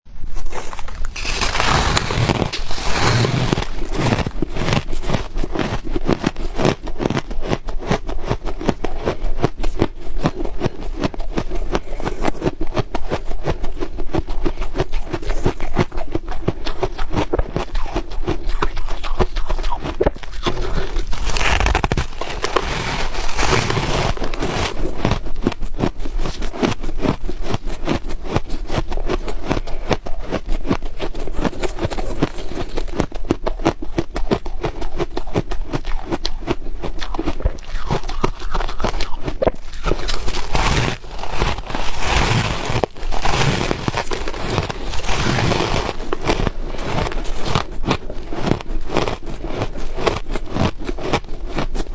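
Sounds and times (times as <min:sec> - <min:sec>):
ice being chewed: 0:00.3 - 0:51.9.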